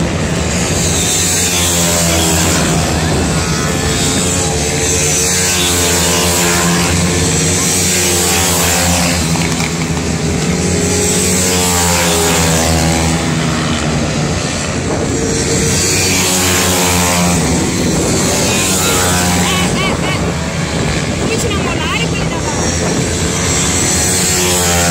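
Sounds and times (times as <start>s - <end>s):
motorbike engines revving: 0.0s - 24.9s.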